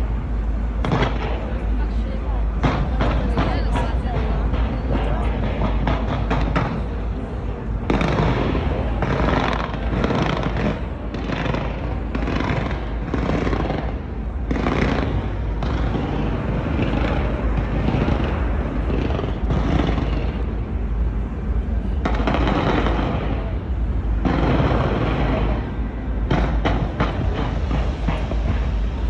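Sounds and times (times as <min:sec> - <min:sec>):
fireworks booming: 0:00.0 - 0:29.0
sharp firework cracks: 0:00.8 - 0:01.7, 0:02.6 - 0:07.0, 0:07.8 - 0:20.6, 0:21.9 - 0:23.6, 0:24.2 - 0:29.0.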